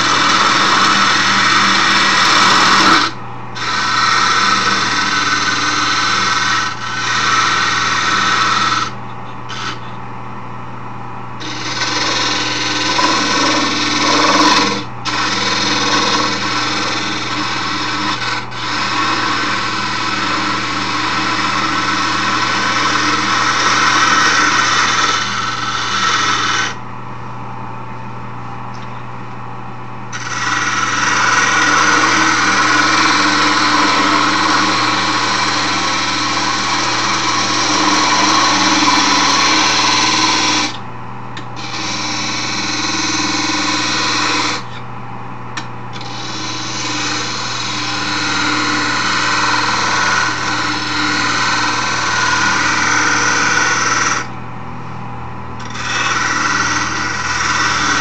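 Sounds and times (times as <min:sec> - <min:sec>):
loud scraping on spinning wood: 0:00.0 - 0:09.8, 0:11.4 - 0:26.8, 0:30.2 - 0:40.8, 0:41.6 - 0:44.8, 0:46.0 - 0:54.3, 0:55.7 - 0:58.0
lathe motor hum: 0:00.0 - 0:10.0, 0:11.4 - 0:26.8, 0:30.1 - 0:40.8, 0:41.4 - 0:44.8, 0:46.0 - 0:54.4, 0:55.6 - 0:58.0.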